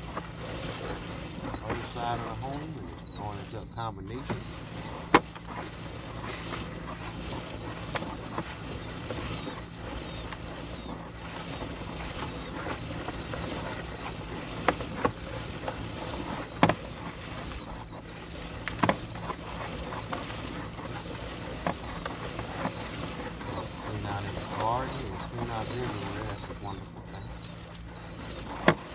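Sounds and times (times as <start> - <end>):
camera scraping in pipe: 0.0 - 28.9.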